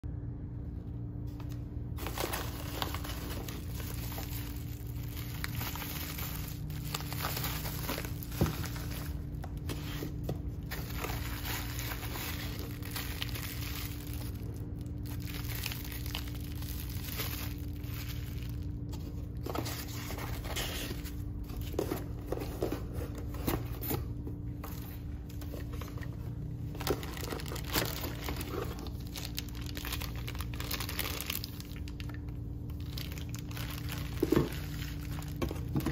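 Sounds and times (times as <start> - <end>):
bubble wrap crinkling: 1.2 - 35.9.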